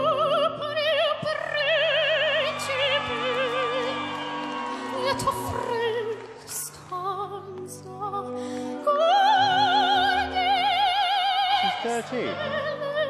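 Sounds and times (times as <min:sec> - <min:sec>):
girl singing opera: 0:00.0 - 0:13.0.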